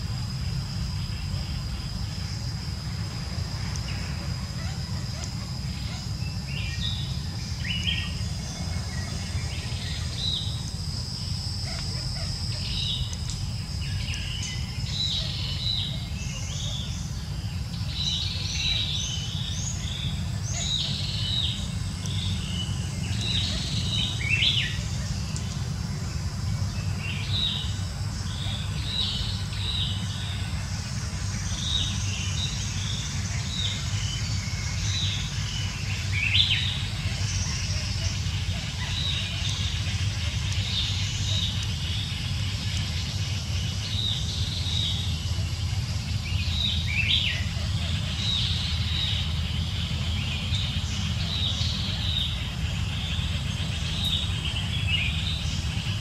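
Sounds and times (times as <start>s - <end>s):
high insect drone: 0.0s - 56.0s
low steady rumble: 0.0s - 56.0s
birds chirping: 0.1s - 56.0s.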